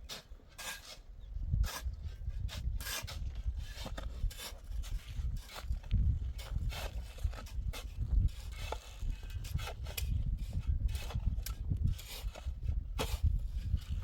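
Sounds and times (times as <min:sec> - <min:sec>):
irregular scraping strokes: 0:00.0 - 0:14.0.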